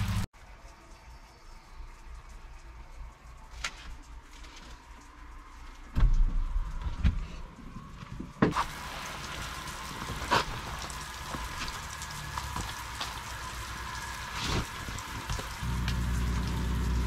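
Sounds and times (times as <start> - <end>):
light rain pattering on wood: 0.4 - 17.0.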